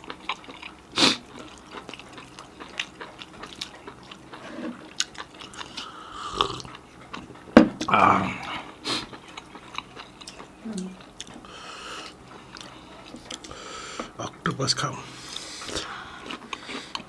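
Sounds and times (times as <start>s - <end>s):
chewing with mouth clicks: 0.0s - 14.2s, 15.3s - 17.0s.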